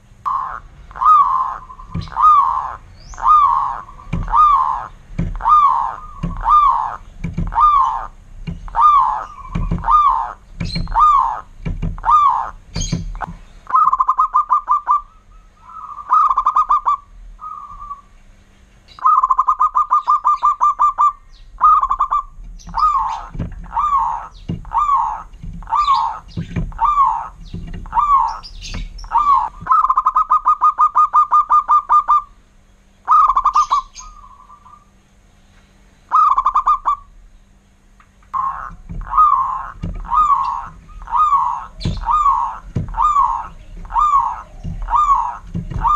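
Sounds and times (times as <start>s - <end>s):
dove cooing: 0.0s - 18.2s, 19.0s - 32.4s, 33.0s - 35.0s, 36.1s - 37.2s, 38.3s - 45.9s.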